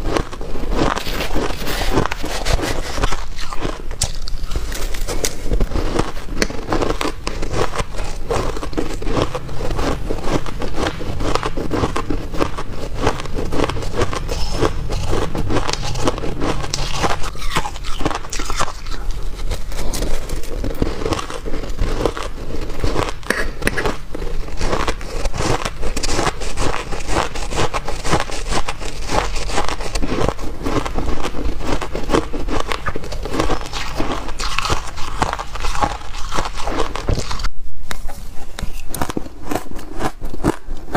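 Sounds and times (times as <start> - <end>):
chewing shaved ice crunching: 0.0 - 37.5, 38.9 - 40.9.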